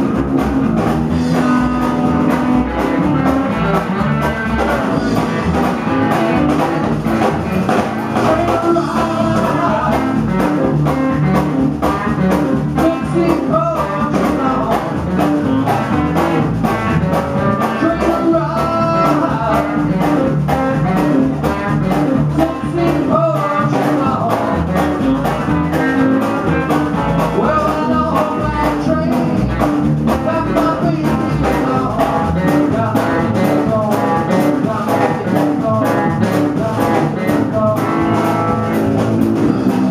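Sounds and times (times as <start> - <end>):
drum kit: 0.0 - 39.9
upright double bass: 0.0 - 39.9
man singing: 1.1 - 7.2, 8.0 - 39.9.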